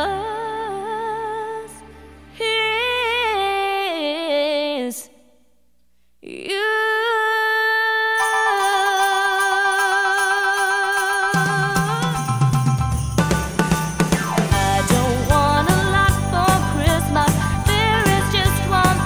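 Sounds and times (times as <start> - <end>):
musical instruments: 0.0 - 5.0, 8.1 - 19.0
woman singing with vibrato: 0.0 - 5.3, 6.2 - 12.4, 14.5 - 19.0.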